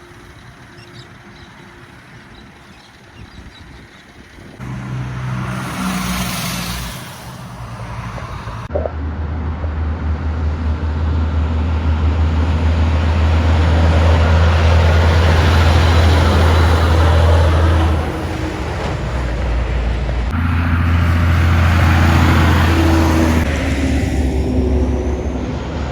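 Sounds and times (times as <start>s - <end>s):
heavy road traffic: 0.0s - 25.9s
truck diesel engine drone: 0.0s - 25.9s
vehicle passing: 0.0s - 25.9s.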